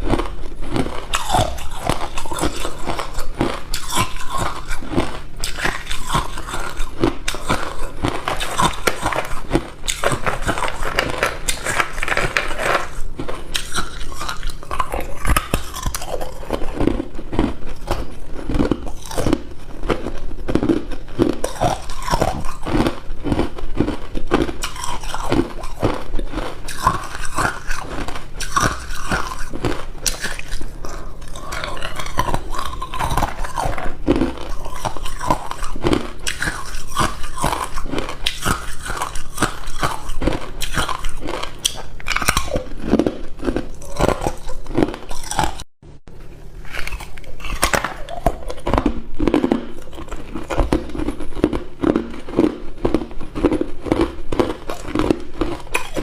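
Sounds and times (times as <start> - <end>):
person crunching ice cubes: 0.0 - 45.7, 46.6 - 56.0.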